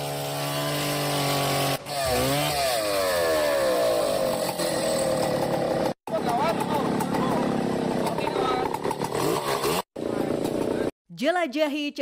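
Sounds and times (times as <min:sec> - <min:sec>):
chainsaw cutting wood: 0:00.0 - 0:10.9.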